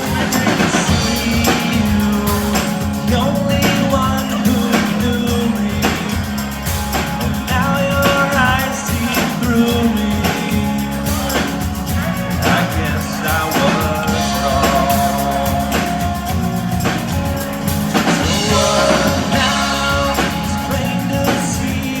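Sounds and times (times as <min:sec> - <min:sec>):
drum beat: 0:00.0 - 0:22.0
person singing: 0:00.0 - 0:22.0
rock band playing live: 0:00.0 - 0:22.0.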